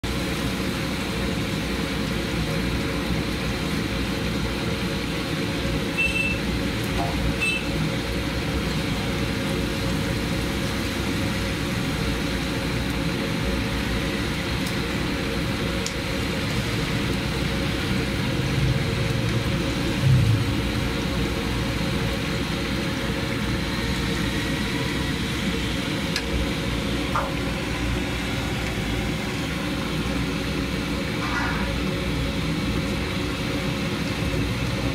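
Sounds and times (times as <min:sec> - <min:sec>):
chicken deep-frying in oil: 0:00.0 - 0:34.9
street traffic hum: 0:00.2 - 0:34.9.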